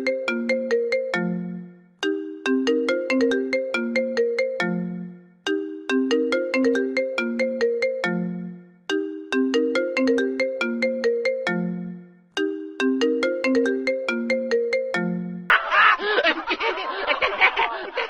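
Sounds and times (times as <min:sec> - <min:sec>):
bell-like phone ringtone: 0:00.0 - 0:15.5.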